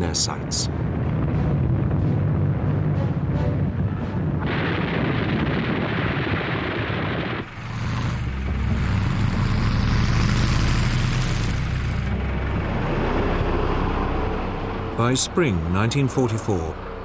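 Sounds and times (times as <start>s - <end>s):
dense rushing noise: 0.0s - 15.9s
deep engine drone: 0.0s - 17.0s.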